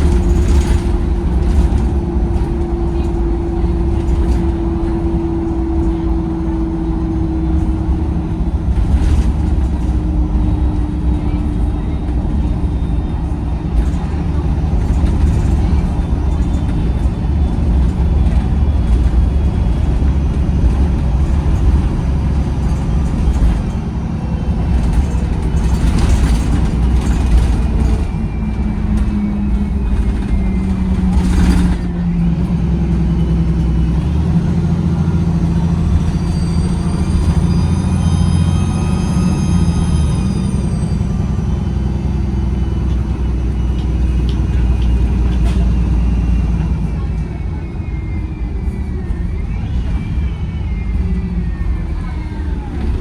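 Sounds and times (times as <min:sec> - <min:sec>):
bus diesel engine drone: 0:00.0 - 0:53.0.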